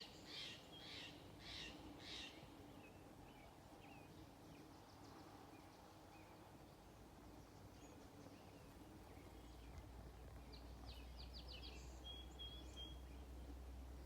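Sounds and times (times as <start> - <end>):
small birds chirping faintly: 0.0 - 14.0.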